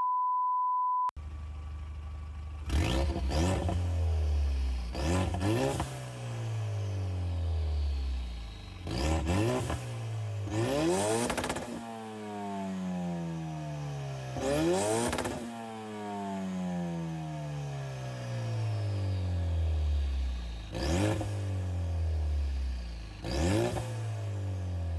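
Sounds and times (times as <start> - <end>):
car engine revving: 1.9 - 24.9.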